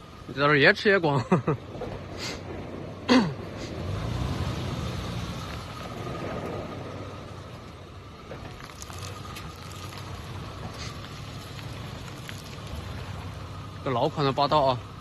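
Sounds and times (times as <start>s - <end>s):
engine labouring: 0.0s - 15.0s.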